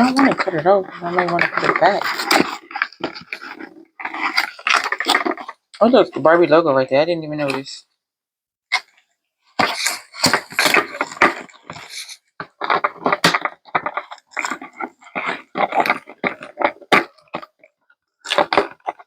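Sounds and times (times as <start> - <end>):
packaging rustling and scraping: 0.0 - 6.3, 9.5 - 19.0.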